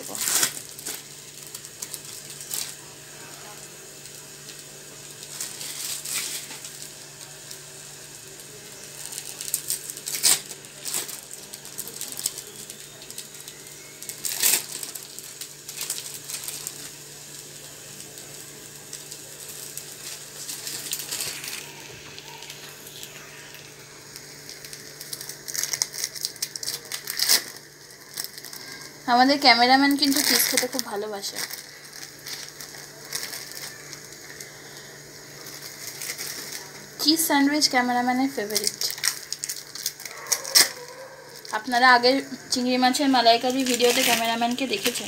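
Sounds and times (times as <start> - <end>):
wrapper crinkling and clicks: 0.0 - 2.8, 4.0 - 7.6, 8.2 - 17.0, 17.6 - 37.1, 38.3 - 41.8, 43.4 - 45.0
food sizzling in a pan: 0.0 - 45.0
steady low hum: 0.0 - 45.0.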